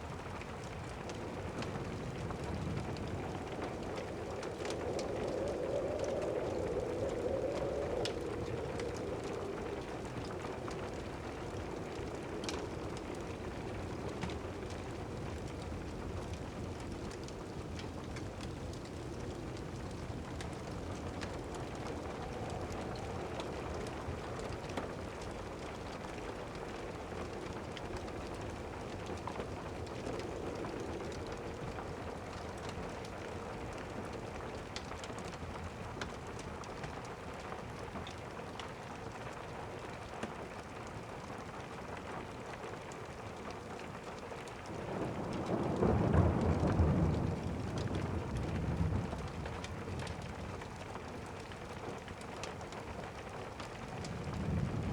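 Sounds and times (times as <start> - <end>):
fireplace fire crackling: 0.0 - 54.9
steady rain: 0.0 - 54.9.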